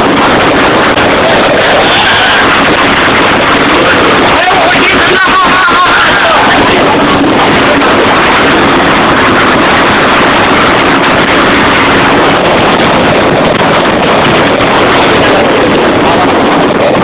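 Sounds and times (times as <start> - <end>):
vehicle running noise: 0.0 - 17.0
wind buffeting microphone: 0.0 - 17.0.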